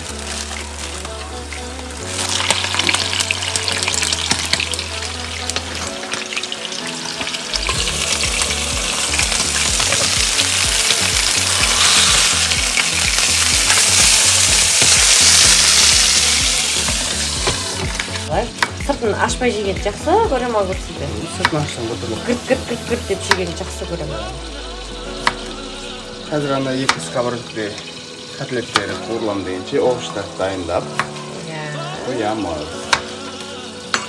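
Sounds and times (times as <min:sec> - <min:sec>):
burger patties sizzling in oil: 0:00.0 - 0:34.0.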